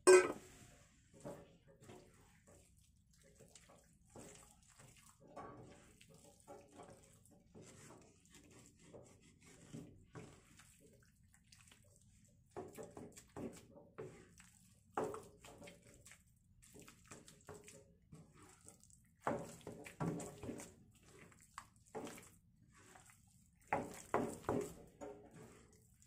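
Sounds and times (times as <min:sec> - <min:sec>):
batter sloshing and scraping in pan: 0:00.0 - 0:26.0.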